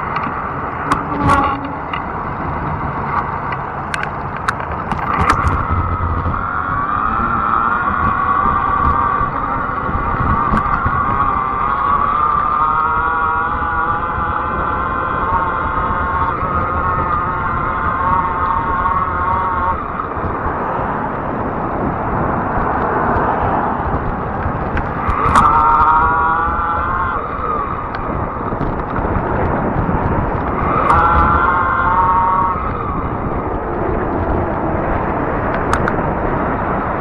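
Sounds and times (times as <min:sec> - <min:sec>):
bike tyre road noise: 0:00.0 - 0:37.0
pitched whine: 0:00.0 - 0:37.0
wind rushing over microphone: 0:00.0 - 0:37.0.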